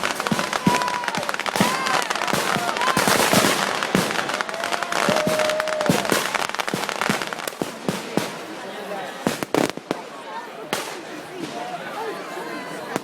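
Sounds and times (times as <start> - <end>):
firecrackers cracking: 0.0 - 8.6, 9.2 - 11.6.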